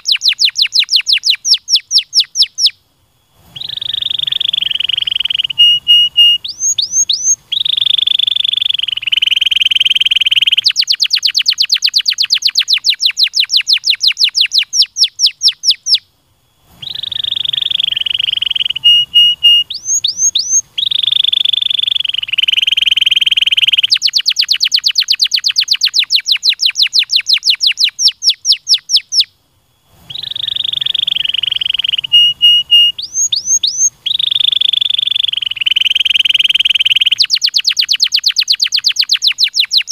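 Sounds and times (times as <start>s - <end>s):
canary singing: 0.0s - 2.8s, 3.5s - 16.1s, 16.7s - 39.9s.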